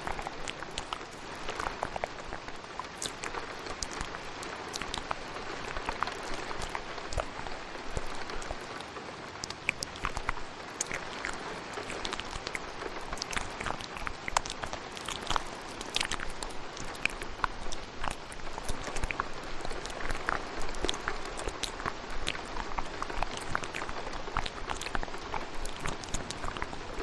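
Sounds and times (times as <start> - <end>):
steady rain: 0.0 - 27.0
wet mouth clicks: 0.0 - 27.0.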